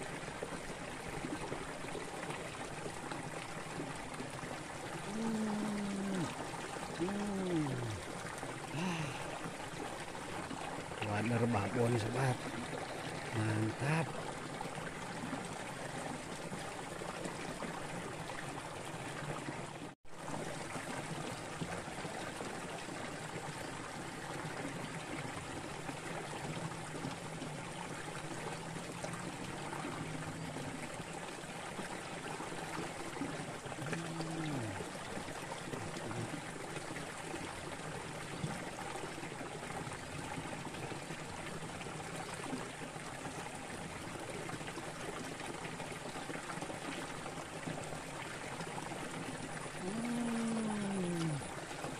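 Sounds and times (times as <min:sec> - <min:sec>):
water trickling in a ditch: 0:00.0 - 0:51.9.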